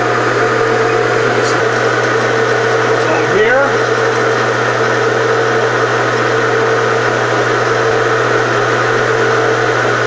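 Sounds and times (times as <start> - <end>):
milling machine humming: 0.0 - 10.0.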